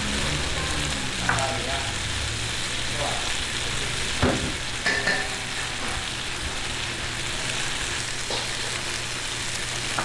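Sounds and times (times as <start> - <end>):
buns sizzling in oil: 0.0 - 10.0.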